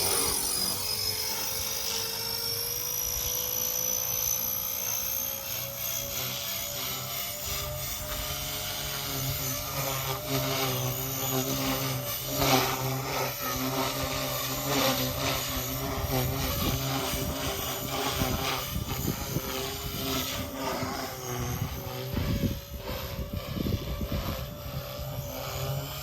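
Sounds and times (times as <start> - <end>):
electric motors whining: 0.0 - 26.0
rotor blades buzzing: 0.0 - 26.0.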